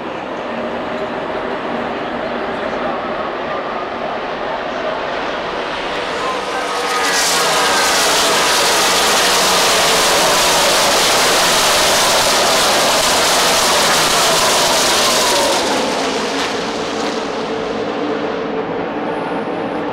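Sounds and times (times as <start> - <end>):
race car engines passing: 0.0 - 19.9.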